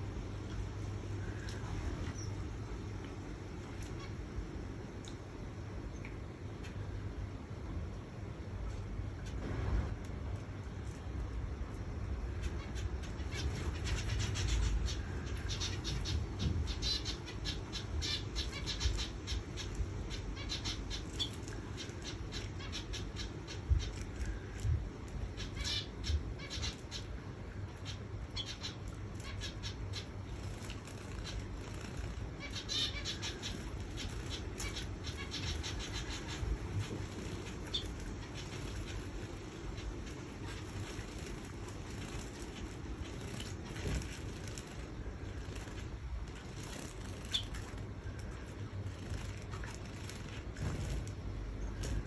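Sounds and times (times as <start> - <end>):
low steady rumble: 0.0 - 52.0.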